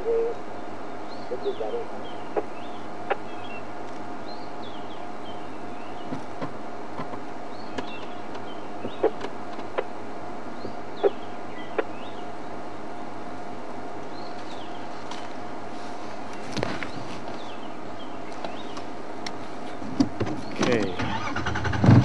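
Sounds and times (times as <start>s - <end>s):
birds chirping: 0.0s - 21.8s
steady hum: 0.0s - 22.0s.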